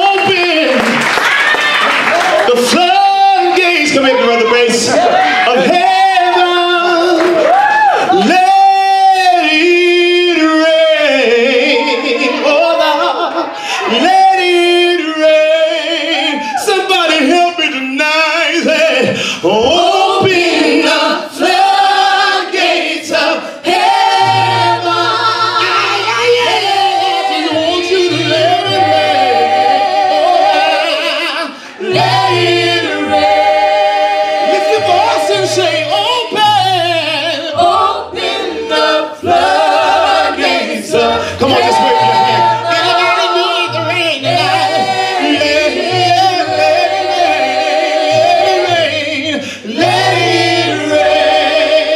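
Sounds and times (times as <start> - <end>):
choir singing in harmony: 2.4 - 16.8, 18.5 - 51.9.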